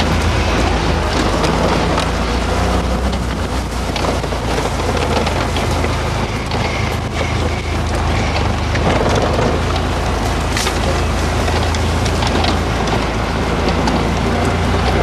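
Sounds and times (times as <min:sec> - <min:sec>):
buggy engine running: 0:00.0 - 0:15.0
wind noise on microphone: 0:00.0 - 0:15.0.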